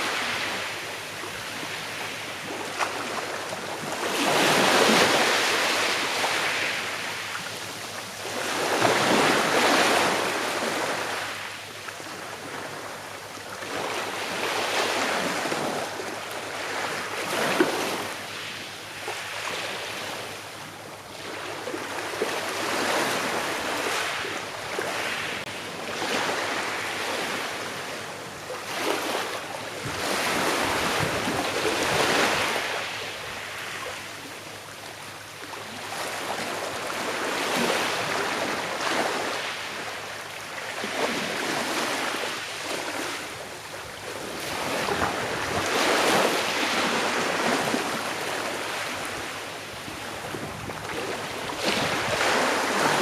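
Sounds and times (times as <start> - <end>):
small waves breaking on shore: 0.0 - 53.0.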